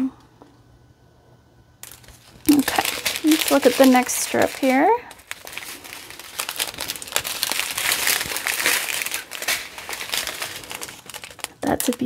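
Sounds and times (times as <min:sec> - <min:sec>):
plastic bags crinkling: 0:01.8 - 0:12.0.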